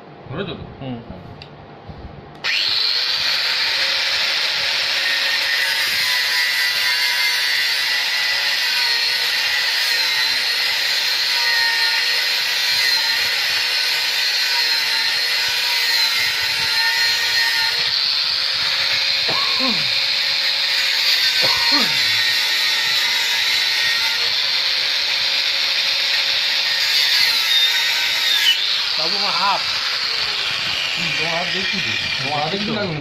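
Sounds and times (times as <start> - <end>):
angle grinder high whine: 2.4 - 33.0
grinder disc cutting steel: 2.4 - 33.0.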